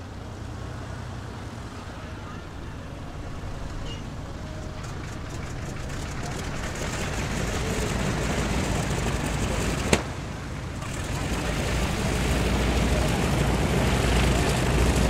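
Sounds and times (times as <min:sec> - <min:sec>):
propeller plane engine idling: 0:00.0 - 0:15.0.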